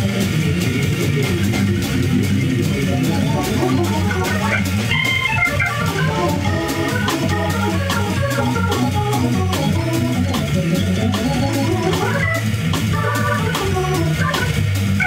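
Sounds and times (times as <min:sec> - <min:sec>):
electric keyboard jazz runs: 0:00.0 - 0:15.0.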